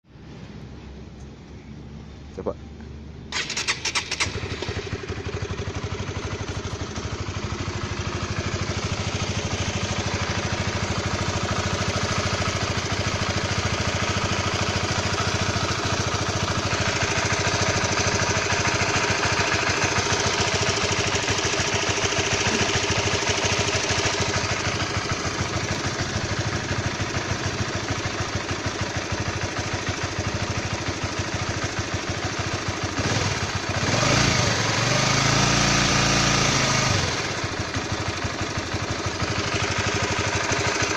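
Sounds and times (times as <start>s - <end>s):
motorcycle engine idling: 3.2s - 40.9s.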